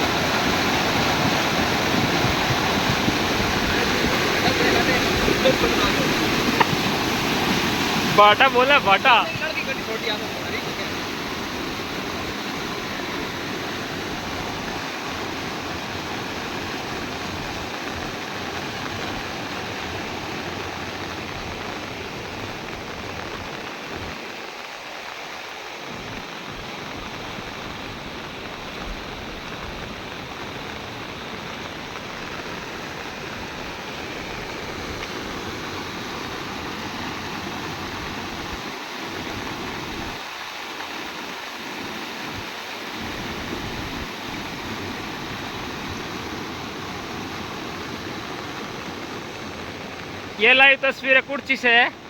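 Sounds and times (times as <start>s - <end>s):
heavy rain pouring: 0.0s - 52.0s
rushing floodwater: 0.0s - 52.0s.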